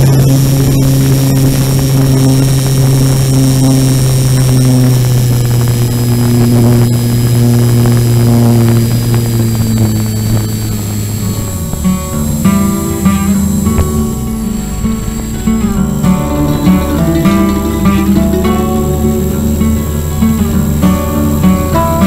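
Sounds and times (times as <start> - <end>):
electric motor and propeller drone: 0.0 - 22.0.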